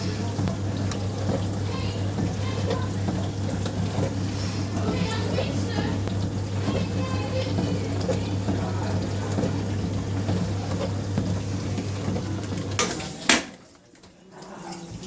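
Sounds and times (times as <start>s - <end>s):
rushing water: 0.0s - 13.3s
dishwasher motor humming: 0.0s - 15.0s.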